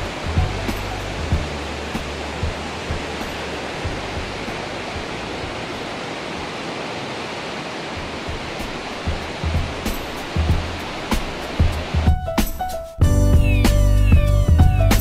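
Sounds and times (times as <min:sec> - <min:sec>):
river water rushing: 0:00.0 - 0:12.6.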